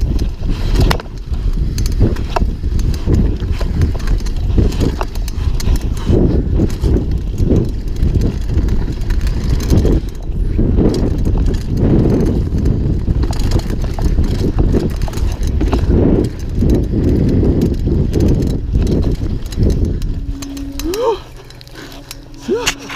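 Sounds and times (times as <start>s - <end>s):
mountain bike rattling and clattering: 0.0s - 22.9s
wind rushing on microphone: 0.0s - 22.9s.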